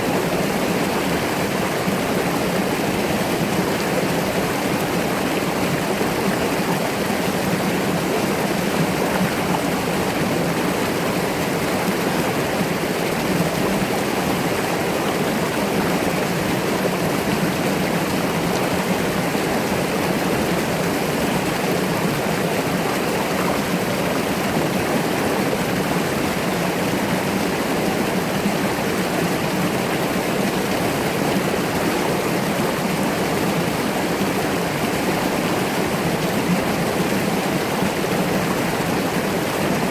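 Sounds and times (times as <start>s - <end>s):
brook water rushing: 0.0s - 39.9s.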